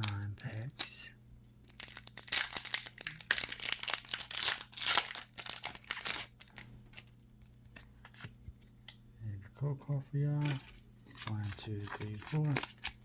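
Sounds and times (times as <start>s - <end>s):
foil wrapper crinkling: 0.0s - 8.3s, 10.4s - 13.0s.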